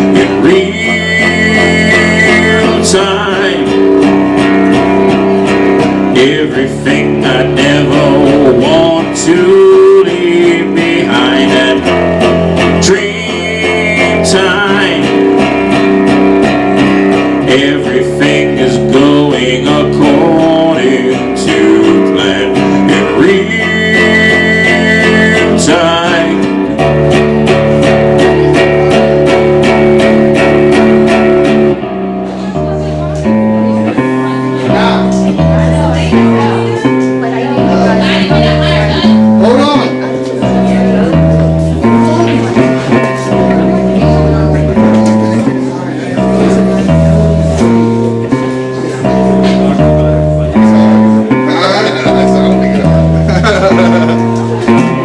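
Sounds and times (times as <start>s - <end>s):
electric guitar music: 0.0s - 55.0s.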